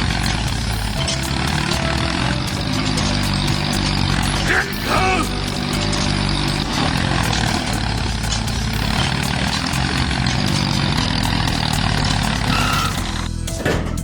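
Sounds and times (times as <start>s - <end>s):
small tractor engine running: 0.0s - 14.0s.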